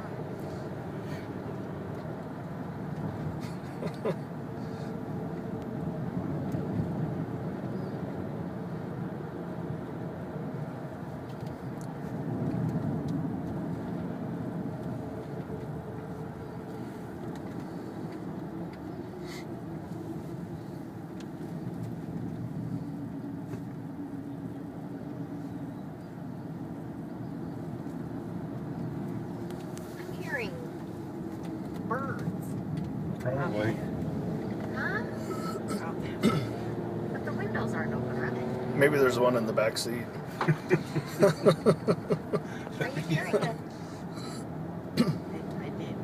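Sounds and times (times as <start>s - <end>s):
car road and engine noise: 0.0s - 46.0s.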